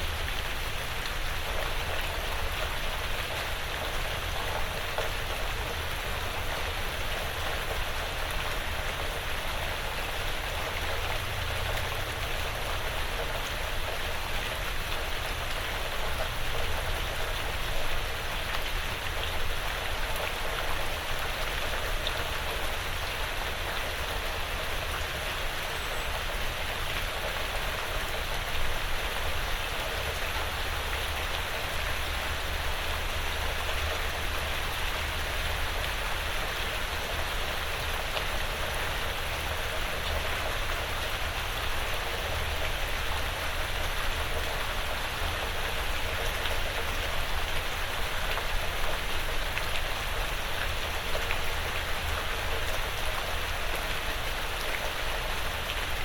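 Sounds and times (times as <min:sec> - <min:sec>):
light rain on roof: 0:00.0 - 0:56.0.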